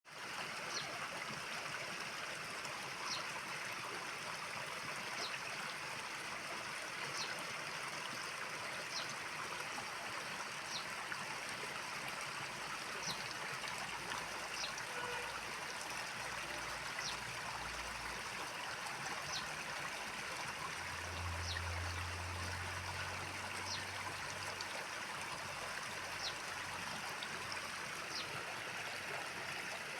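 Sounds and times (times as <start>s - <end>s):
mountain stream rushing: 0.1s - 29.9s.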